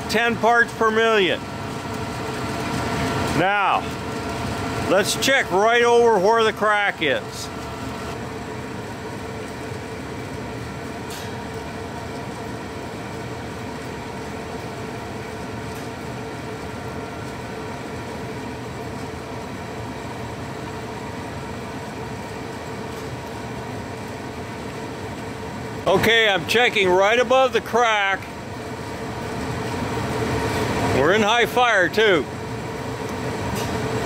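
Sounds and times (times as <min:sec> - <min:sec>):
gas furnace humming: 0:00.0 - 0:34.0.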